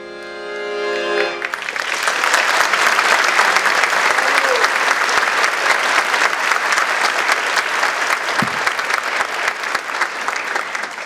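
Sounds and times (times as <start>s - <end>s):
audience applause: 1.4s - 11.0s.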